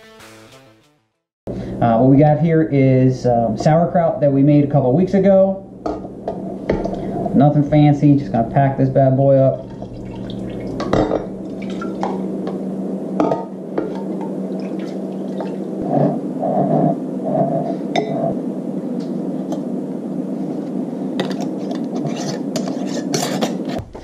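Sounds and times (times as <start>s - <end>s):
low hum: 1.5s - 24.0s.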